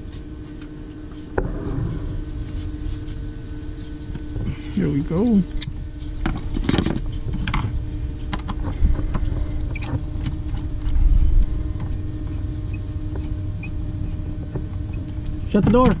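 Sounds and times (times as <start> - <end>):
constant hum: 0.0 - 16.0
low rumble: 1.3 - 4.8, 5.4 - 15.5.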